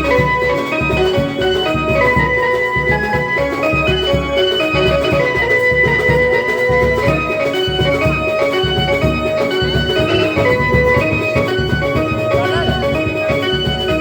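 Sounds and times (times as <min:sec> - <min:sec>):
brass band melody: 0:00.0 - 0:14.0
drum beat: 0:00.0 - 0:14.0.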